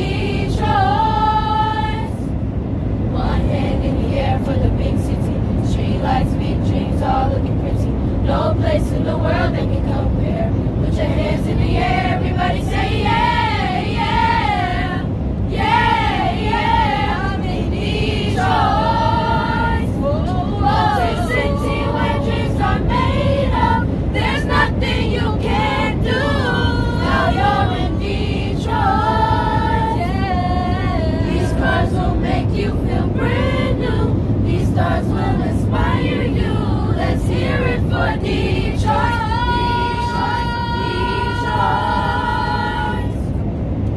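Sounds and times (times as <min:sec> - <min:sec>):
choir singing: 0:00.0 - 0:02.3, 0:03.2 - 0:43.4
aircraft cabin noise: 0:00.0 - 0:43.9.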